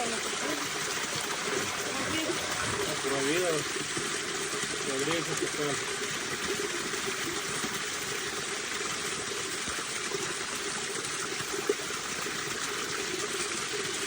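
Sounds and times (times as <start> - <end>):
water running into a tank: 0.0 - 14.0.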